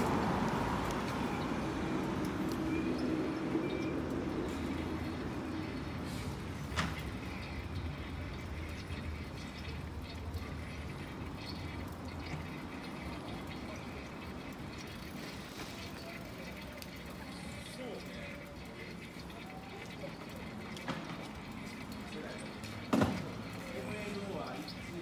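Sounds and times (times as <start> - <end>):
low traffic hum: 0.0 - 25.0.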